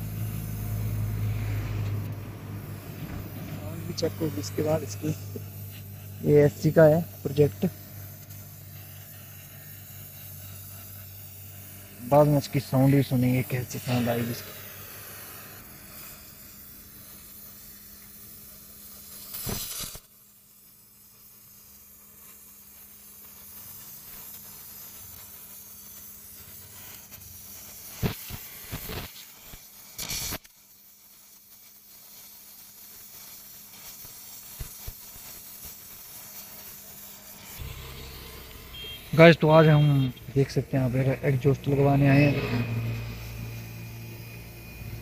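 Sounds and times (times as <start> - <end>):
welding torch hissing: 0.0 - 45.0.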